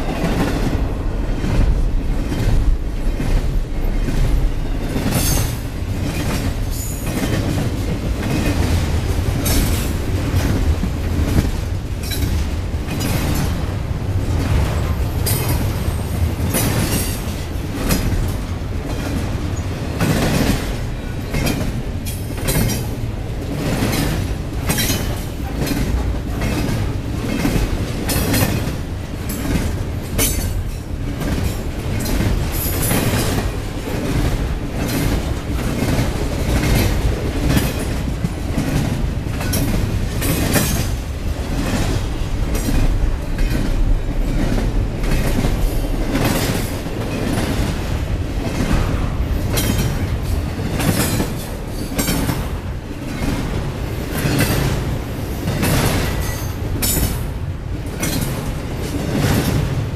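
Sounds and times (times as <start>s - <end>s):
train cars rumbling past: 0.0s - 59.9s
wheels clacking over rail joints: 0.0s - 59.9s.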